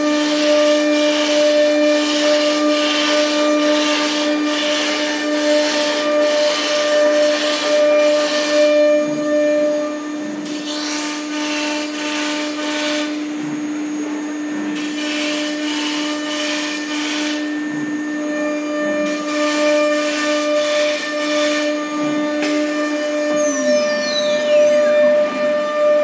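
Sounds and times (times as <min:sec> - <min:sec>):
router bit cutting wood: 0:00.0 - 0:26.0
router spindle whine: 0:00.0 - 0:26.0.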